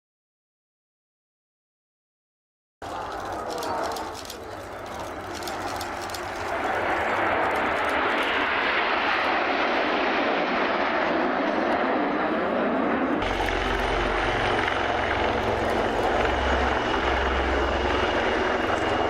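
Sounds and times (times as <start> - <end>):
airplane engine in flight: 2.8 - 19.0.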